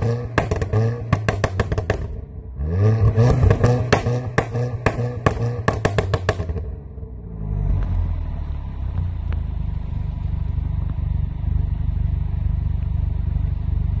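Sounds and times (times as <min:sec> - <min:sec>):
car engine idling: 0:00.0 - 0:14.0
exhaust crack: 0:00.0 - 0:14.0.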